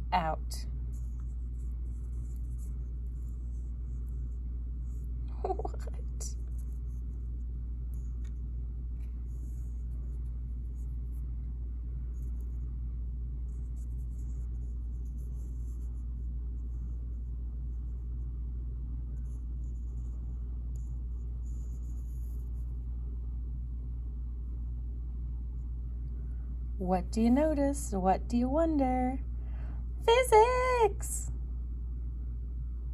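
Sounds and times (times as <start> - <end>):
low background rumble: 0.0 - 32.9.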